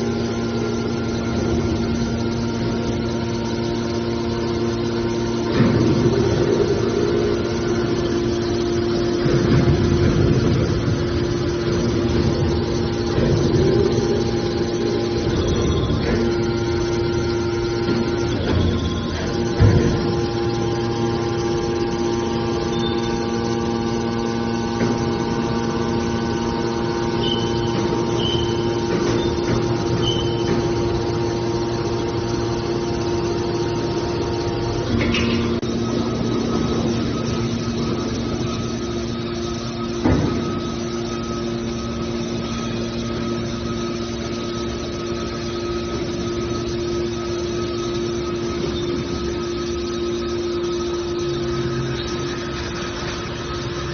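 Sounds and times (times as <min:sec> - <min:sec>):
baler machine hum: 0:00.0 - 0:53.9.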